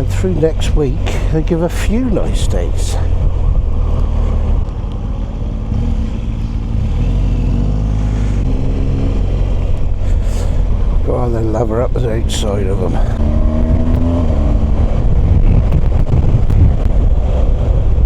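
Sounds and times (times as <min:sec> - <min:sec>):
motorcycle engine running: 0:00.0 - 0:18.0
wind rumble on microphone: 0:00.0 - 0:18.0.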